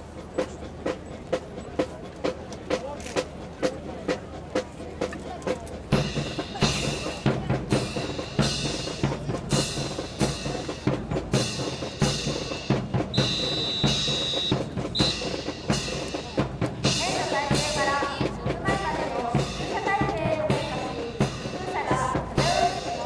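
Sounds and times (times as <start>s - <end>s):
drum-heavy music: 0.0s - 23.0s.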